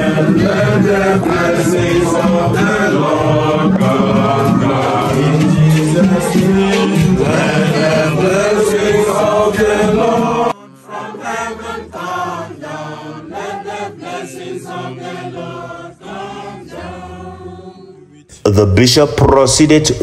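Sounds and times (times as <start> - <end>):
voices chanting together: 0.0 - 18.3.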